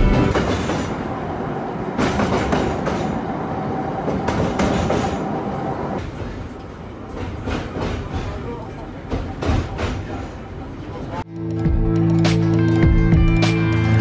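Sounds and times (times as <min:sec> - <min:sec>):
streetcar rumbling on rails: 0:00.0 - 0:11.3.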